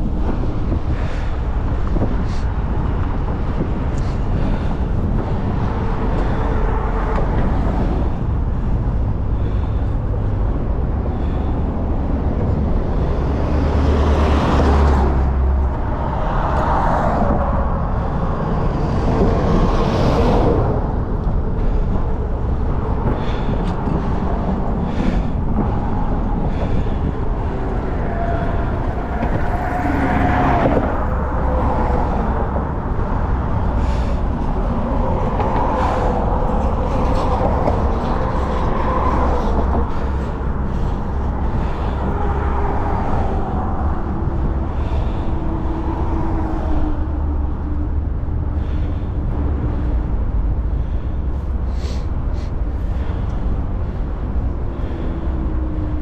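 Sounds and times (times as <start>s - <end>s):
motor vehicles passing: 0.0s - 56.0s
traffic low rumble: 0.0s - 56.0s.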